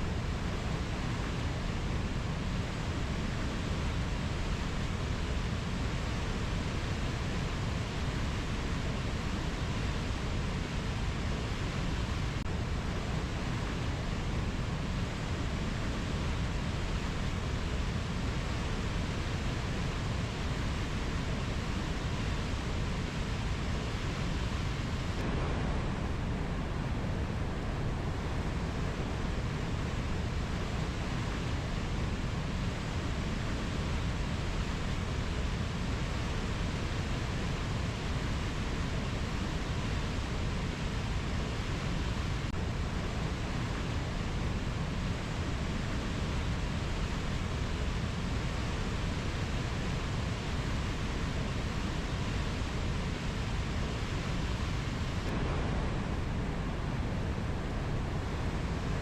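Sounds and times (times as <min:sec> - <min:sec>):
rainforest ambience rushing noise: 0:00.0 - 0:59.0.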